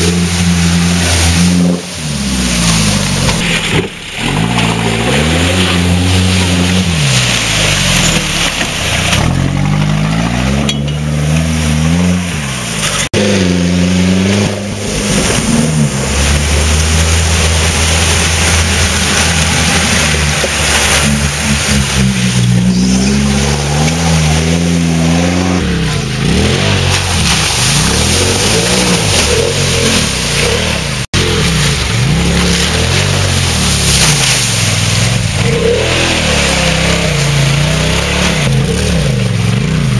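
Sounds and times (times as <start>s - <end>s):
off-road engines revving: 0.0s - 39.9s
splashing through mud and water: 0.0s - 39.9s.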